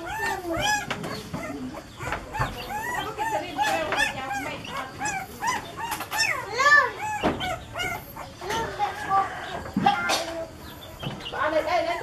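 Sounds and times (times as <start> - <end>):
puppies whimpering and yelping: 0.0 - 11.0.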